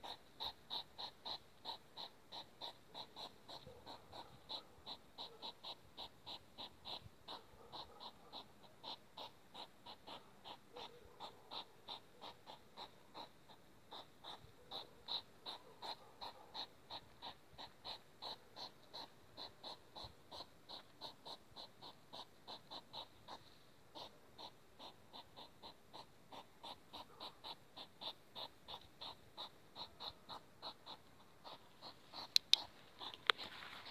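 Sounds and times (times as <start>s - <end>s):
hedgehog huffing: 0.0s - 33.9s.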